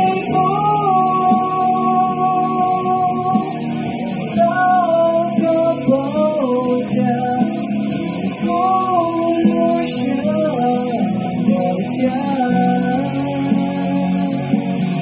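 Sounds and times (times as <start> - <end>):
guitar accompaniment: 0.0 - 15.0
man singing into a microphone: 0.0 - 15.0.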